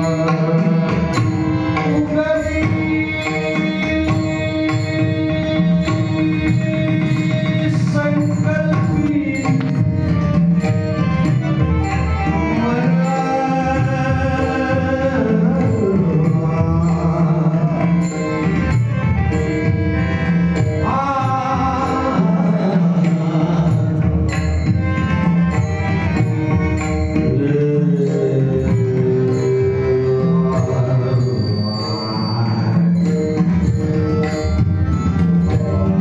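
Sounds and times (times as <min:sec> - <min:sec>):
man singing devotional song: 0:00.0 - 0:11.2, 0:12.1 - 0:36.0
hand drum steady beat: 0:00.0 - 0:29.3.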